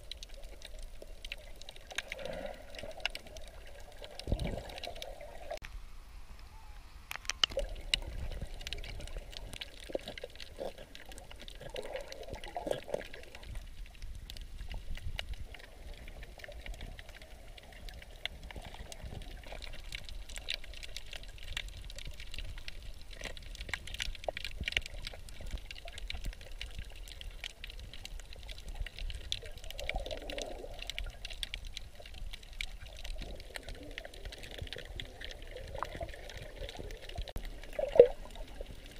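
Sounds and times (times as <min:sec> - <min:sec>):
sharp clicks and crackles: 0:00.0 - 0:05.7, 0:07.1 - 0:38.9
underwater sloshing and bubbling: 0:00.0 - 0:38.9.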